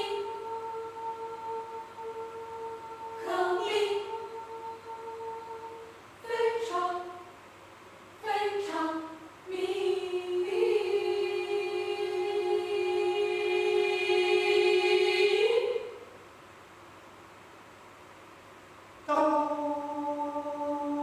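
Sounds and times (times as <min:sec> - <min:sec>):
mixed choir singing a cappella: 0:00.0 - 0:07.3, 0:08.2 - 0:16.1, 0:19.1 - 0:21.0.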